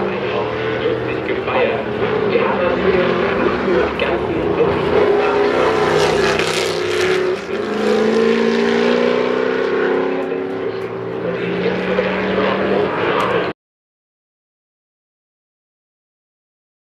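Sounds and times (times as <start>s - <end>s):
race car engines accelerating: 0.0s - 13.6s.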